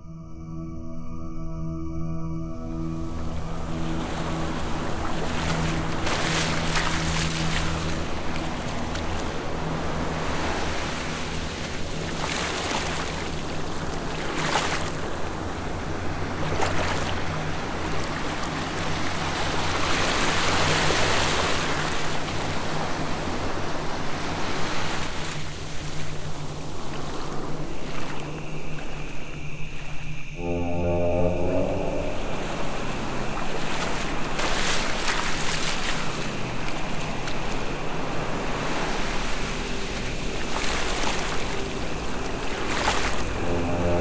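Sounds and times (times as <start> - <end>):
low sustained drone: 0.0 - 24.8, 25.6 - 44.0
washes of noise: 3.7 - 44.0.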